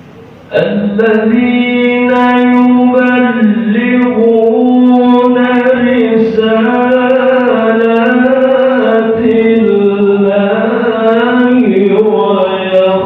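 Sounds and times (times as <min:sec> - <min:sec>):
person reciting melodically: 0:00.5 - 0:13.0.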